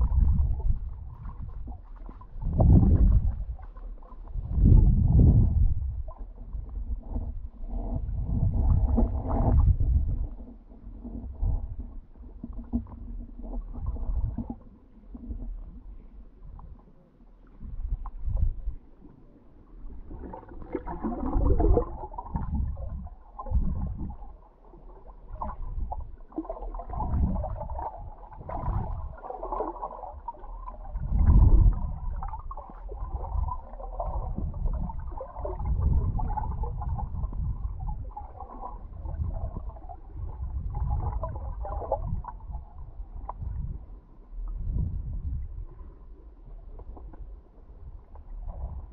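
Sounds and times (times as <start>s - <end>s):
muffled underwater water rushing: 0.0s - 48.9s.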